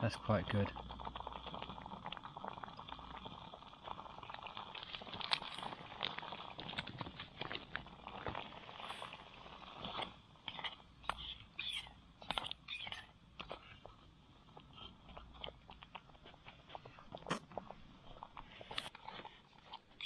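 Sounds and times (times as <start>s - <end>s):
steady stove hiss: 0.0s - 20.0s
thick sauce bubbling: 0.0s - 20.0s.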